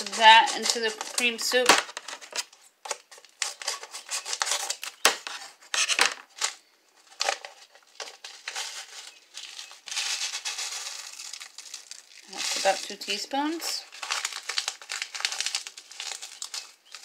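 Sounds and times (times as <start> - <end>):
paper packet rustling: 0.0 - 17.0.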